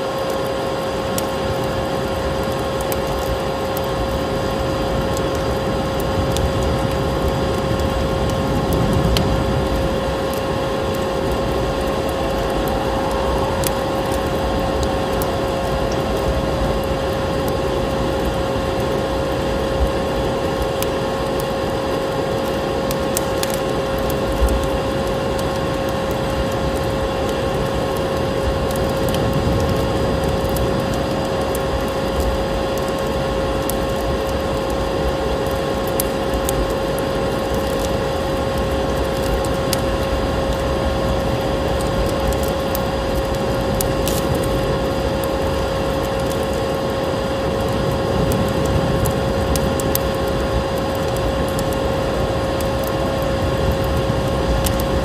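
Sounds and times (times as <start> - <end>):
vacuum cleaner drone: 0.0 - 55.0
fireplace crackling: 0.2 - 55.0.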